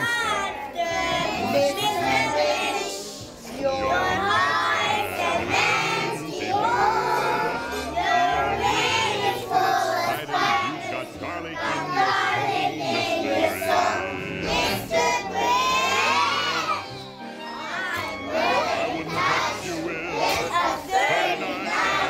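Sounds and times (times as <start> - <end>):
recorded backing music: 0.0 - 22.0
young children singing: 0.0 - 22.0.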